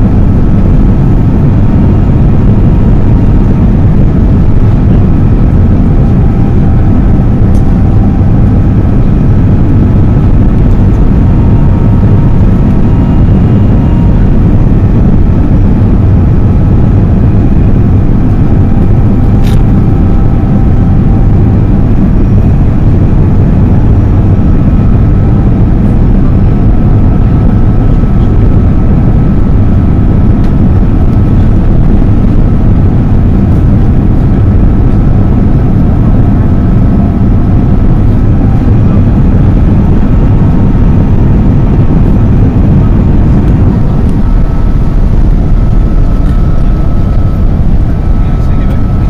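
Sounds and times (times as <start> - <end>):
faint thin whine: 0.0 - 49.0
jet engine roar and rushing air: 0.0 - 49.0.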